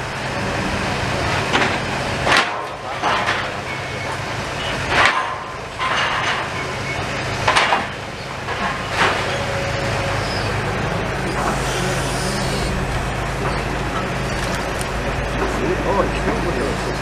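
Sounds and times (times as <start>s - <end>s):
large engine running: 0.0s - 17.0s.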